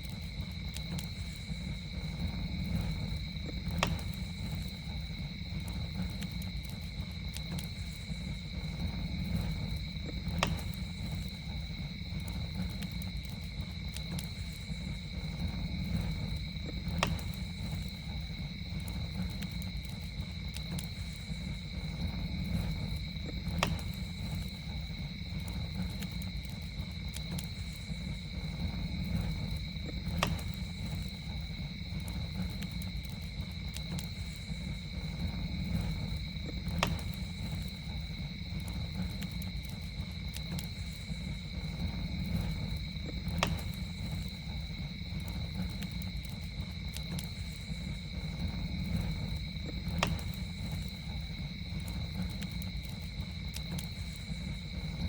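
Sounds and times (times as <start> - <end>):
campfire burning with pops: 0.0 - 55.0
night insects trilling: 0.0 - 55.0.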